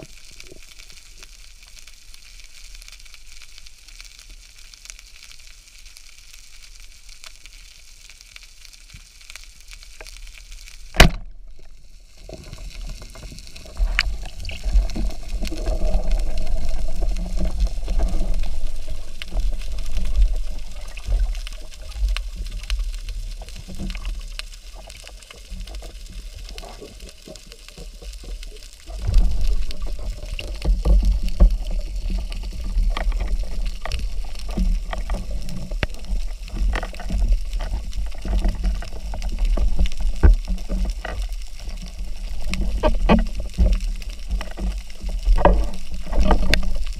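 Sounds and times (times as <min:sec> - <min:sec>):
underwater rushing and bubbling: 0:00.0 - 0:46.9.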